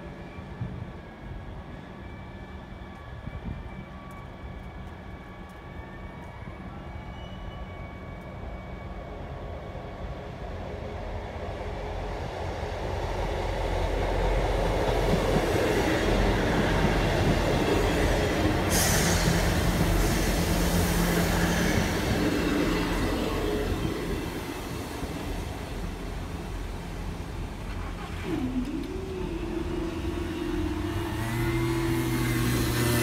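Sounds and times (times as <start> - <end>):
train passing: 0.0 - 33.0.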